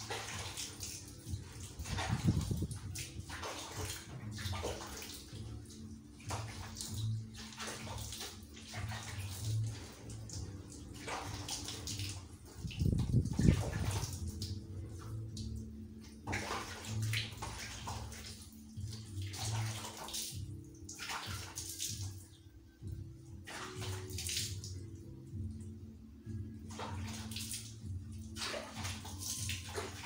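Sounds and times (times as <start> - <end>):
water splashing and pouring: 0.0 - 22.4, 23.4 - 25.0, 26.6 - 30.0.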